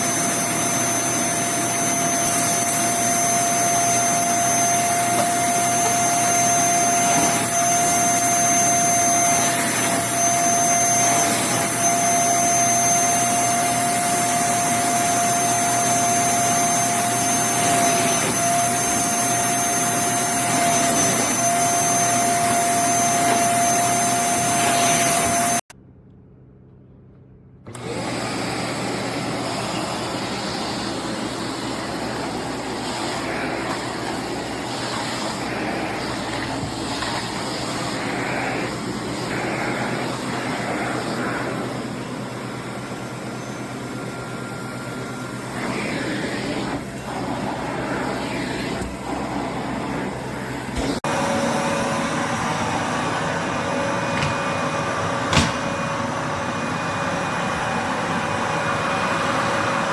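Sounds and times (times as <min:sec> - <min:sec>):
vacuum cleaner running: 0:00.0 - 0:25.7, 0:27.6 - 0:59.9.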